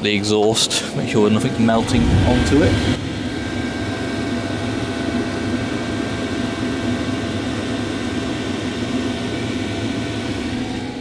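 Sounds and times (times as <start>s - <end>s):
diesel air heater rumbling: 0.0s - 11.0s
faint constant whine: 0.0s - 11.0s.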